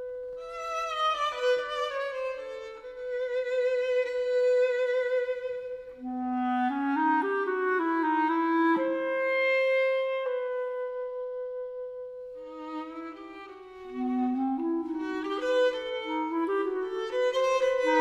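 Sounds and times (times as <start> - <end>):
clarinet melody: 0.0 - 18.0.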